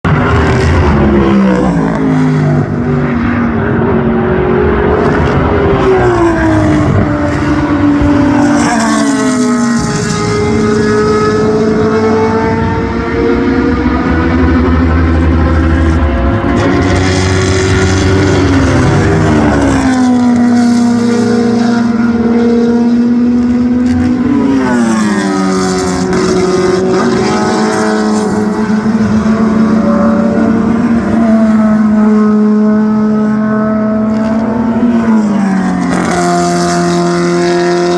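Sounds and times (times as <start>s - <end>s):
racing cars passing at speed: 0.1s - 37.9s.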